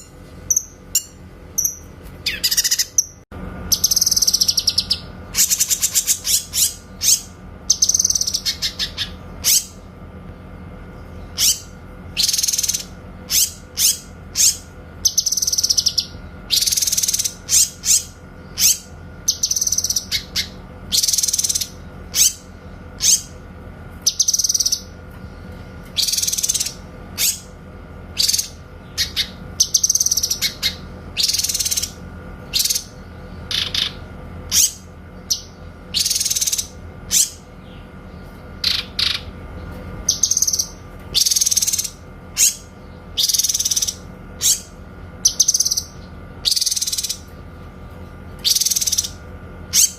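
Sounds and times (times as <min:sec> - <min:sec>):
songbird singing: 0:00.0 - 0:10.0, 0:10.8 - 0:49.9
faint steady hum: 0:00.0 - 0:49.9.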